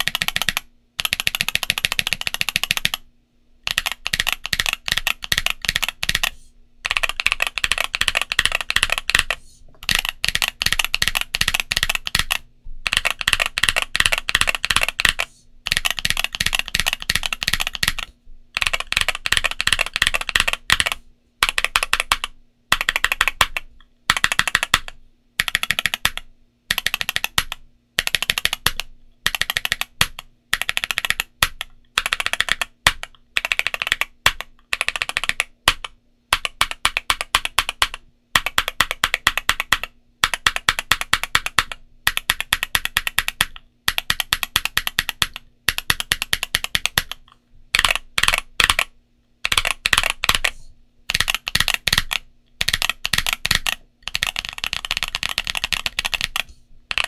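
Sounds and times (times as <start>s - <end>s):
mechanical keyboard typing: 0.0s - 57.0s.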